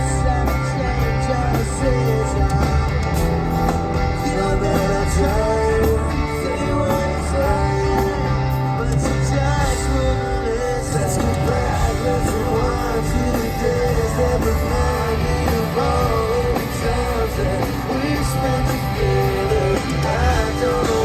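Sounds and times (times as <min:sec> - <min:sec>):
electric guitar: 0:00.0 - 0:21.0
person singing: 0:00.0 - 0:21.0
pop-punk band playing live: 0:00.0 - 0:21.0.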